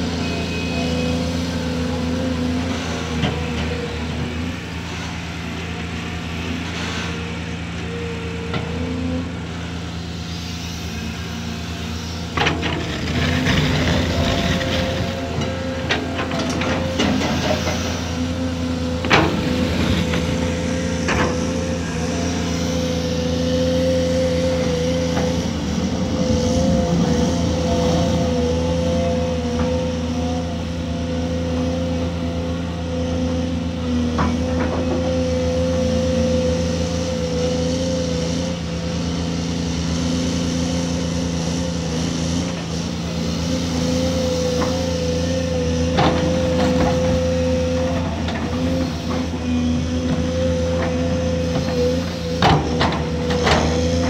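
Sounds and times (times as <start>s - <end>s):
diesel machinery droning: 0.0s - 54.0s.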